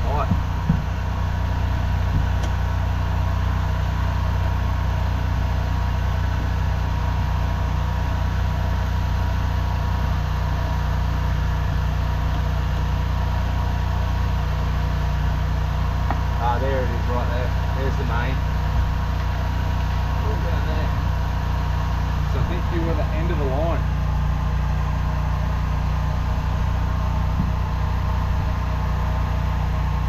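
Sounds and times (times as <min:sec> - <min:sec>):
engine idling: 0:00.0 - 0:30.0
thin steady whine: 0:00.0 - 0:30.0.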